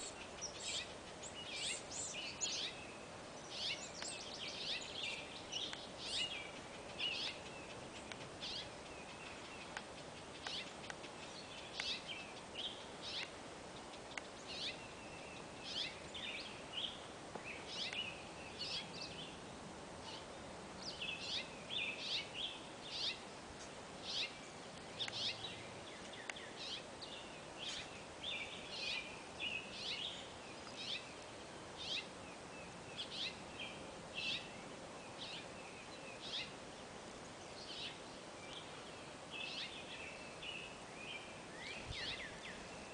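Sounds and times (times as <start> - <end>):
outdoor background hiss: 0.0 - 42.9
songbirds chirping: 0.0 - 42.9.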